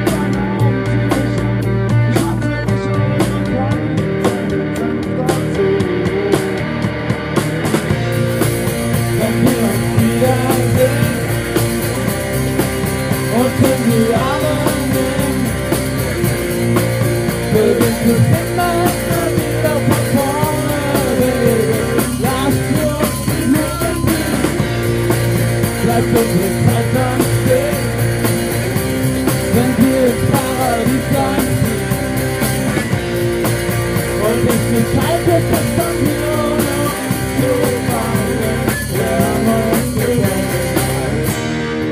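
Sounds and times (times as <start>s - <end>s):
electric guitar lead notes: 0.0s - 41.9s
rock band playing: 0.0s - 41.9s.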